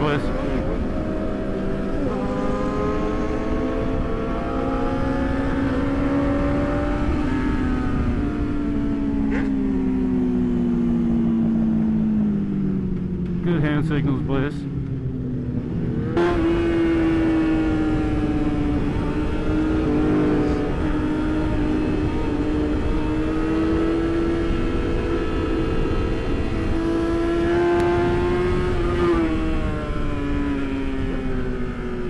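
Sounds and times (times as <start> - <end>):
heavy wind noise: 0.0 - 32.0
motorcycle engine at high revs: 0.0 - 32.0.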